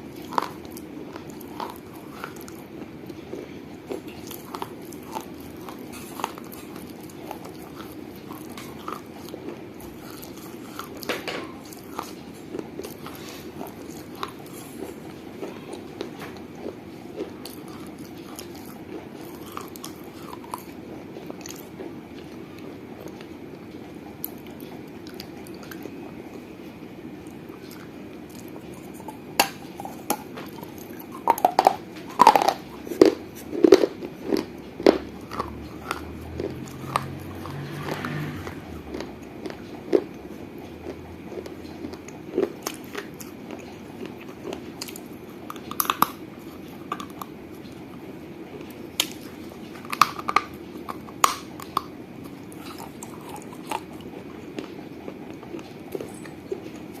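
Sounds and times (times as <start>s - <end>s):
dry clay being bitten and chewed: 0.0s - 22.4s, 27.2s - 57.0s
steady low hum: 0.0s - 57.0s.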